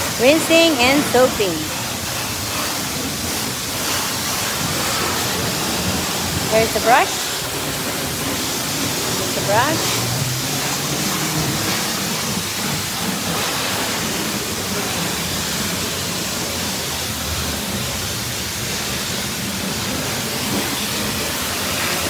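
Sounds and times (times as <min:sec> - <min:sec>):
pressure washer spraying water: 0:00.0 - 0:22.0.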